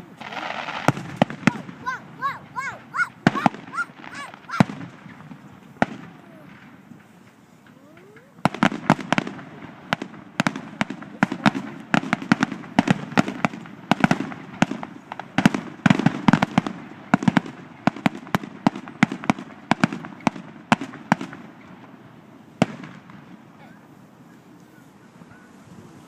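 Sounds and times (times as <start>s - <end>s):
fireworks bangs and crackles: 0.0s - 24.2s.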